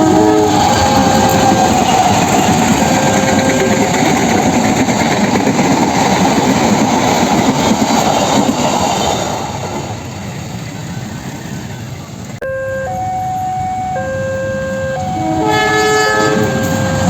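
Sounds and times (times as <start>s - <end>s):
train wheels rumbling on rails: 0.0s - 12.4s, 14.8s - 17.0s.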